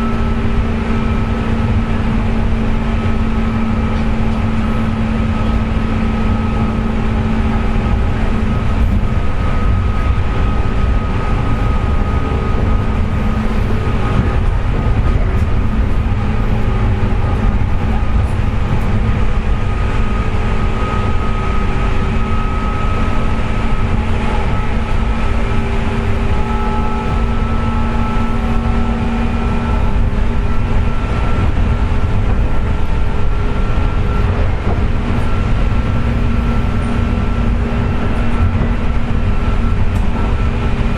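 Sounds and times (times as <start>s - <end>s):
high-pitched whine: 0.0s - 40.9s
wheels rumbling on rail: 0.0s - 40.9s.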